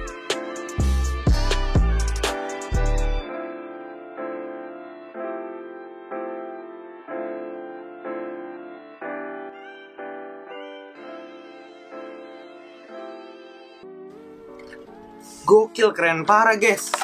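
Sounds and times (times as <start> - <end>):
sustained piano chords: 0.0 - 16.6.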